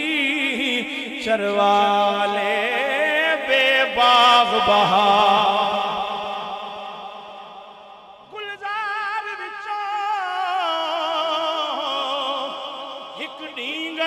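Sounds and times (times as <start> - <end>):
man singing with heavy vibrato: 0.0 - 14.0.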